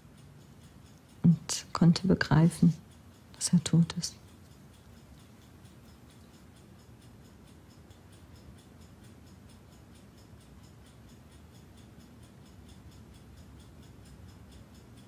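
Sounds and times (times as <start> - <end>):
clock ticking: 0.0 - 15.0
low room hum: 0.0 - 15.0.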